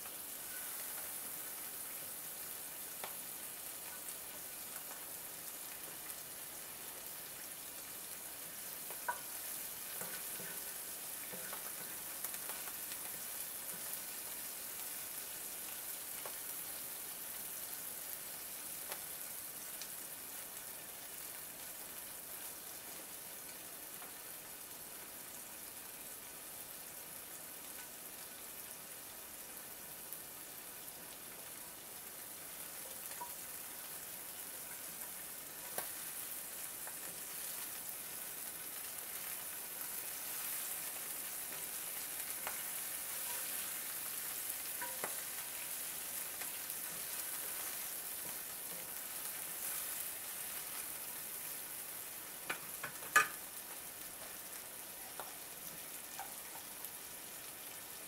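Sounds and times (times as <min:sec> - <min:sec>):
shrimp sizzling in hot oil: 0:00.0 - 0:58.0.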